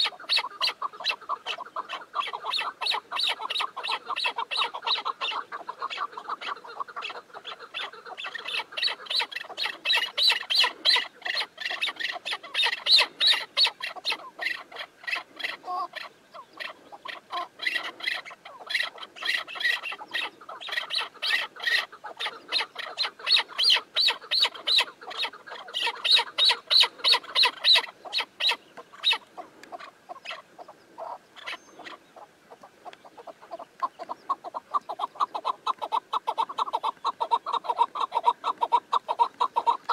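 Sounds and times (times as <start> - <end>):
partridges clucking calls: 0.0 - 39.9.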